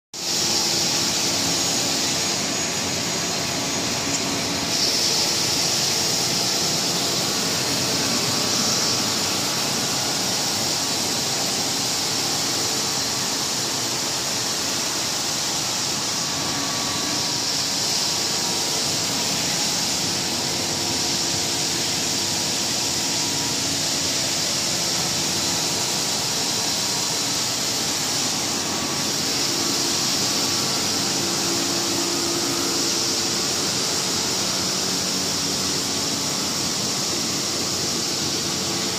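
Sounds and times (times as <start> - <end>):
belt sanding machine hissing: 0.2 - 38.9.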